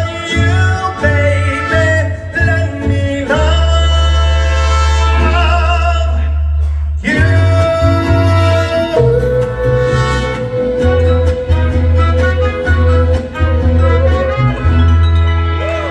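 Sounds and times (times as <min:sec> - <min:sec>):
mariachi band playing: 0:00.0 - 0:15.9.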